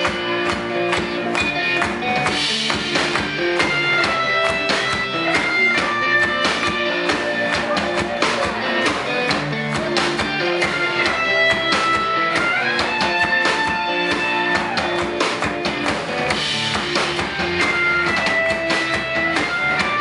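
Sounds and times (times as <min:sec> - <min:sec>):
bass guitar: 0:00.0 - 0:20.0
drum kit beat: 0:00.0 - 0:20.0
electric guitars: 0:00.0 - 0:20.0.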